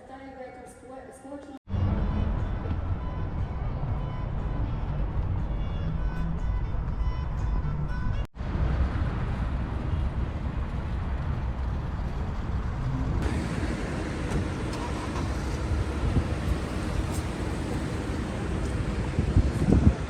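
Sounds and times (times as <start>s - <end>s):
street traffic rumble: 1.7s - 20.0s.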